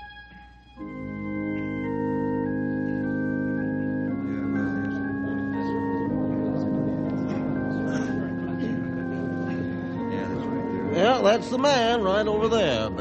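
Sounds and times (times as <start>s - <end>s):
organ chords: 0.0s - 13.0s.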